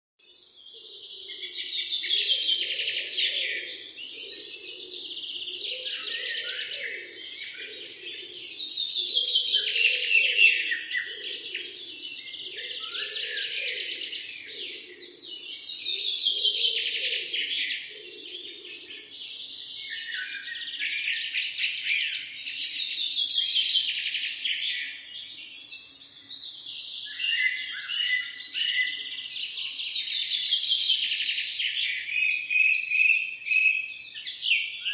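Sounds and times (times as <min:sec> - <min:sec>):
chorus of bird chirps: 0:00.2 - 0:34.9
songbird chattering song: 0:00.3 - 0:34.9.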